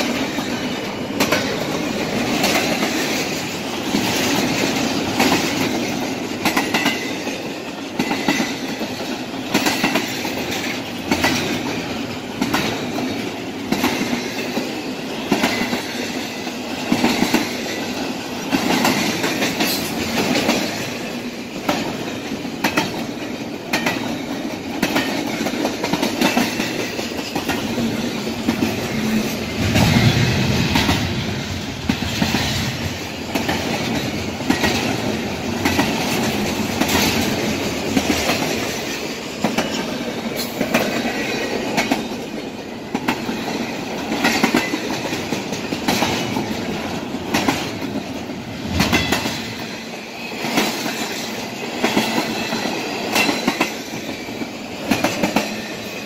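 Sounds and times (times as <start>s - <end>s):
freight train rolling rumble: 0.0s - 56.0s
wheels clacking over rail joints: 0.0s - 56.0s.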